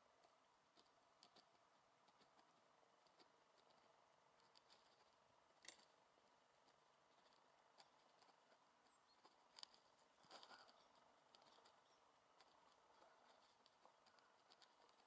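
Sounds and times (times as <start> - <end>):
faint small clicks: 0.2 - 6.0, 6.6 - 15.0.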